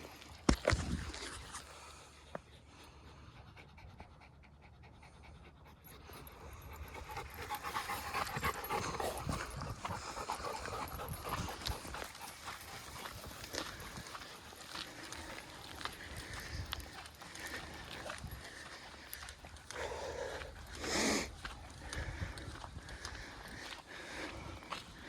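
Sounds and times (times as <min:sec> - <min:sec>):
dog panting hard: 0:02.8 - 0:24.6.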